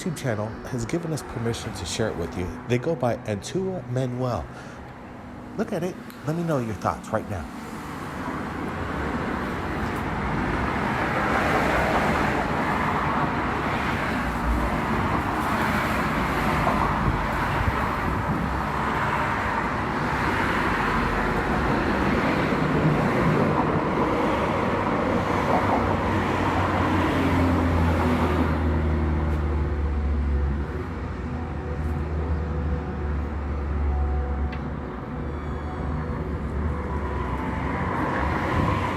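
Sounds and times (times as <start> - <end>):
cars going by: 0.0 - 38.9.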